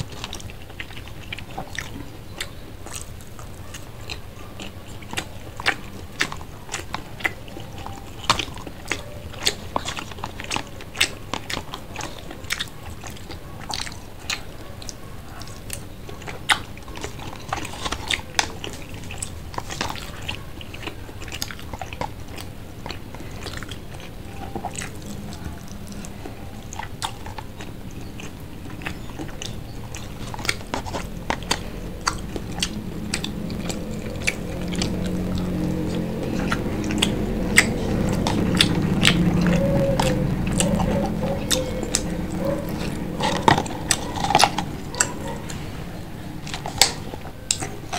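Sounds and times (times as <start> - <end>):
chewing and crunching food: 0.0 - 47.9.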